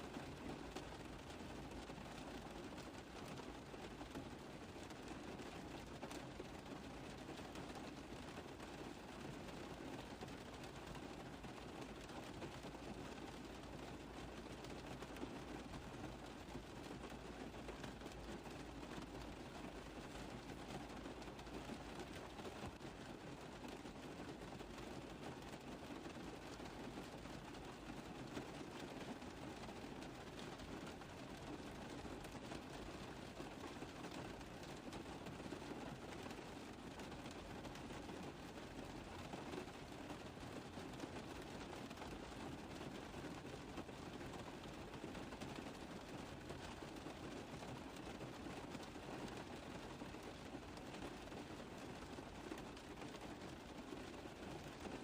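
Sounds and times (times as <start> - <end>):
rain pattering on car roof: 0.0 - 55.0.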